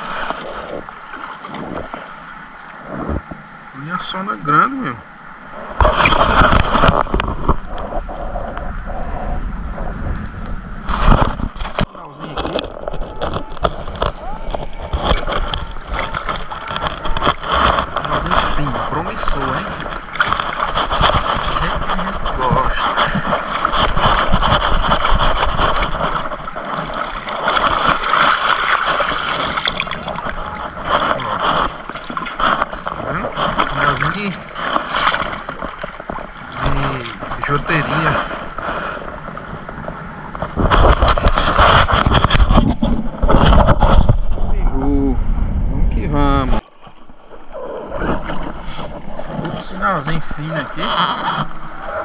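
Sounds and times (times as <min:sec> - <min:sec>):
wind buffeting microphone: 0:00.0 - 0:04.0, 0:05.4 - 0:52.0
lake water lapping: 0:00.0 - 0:44.6, 0:46.4 - 0:52.0.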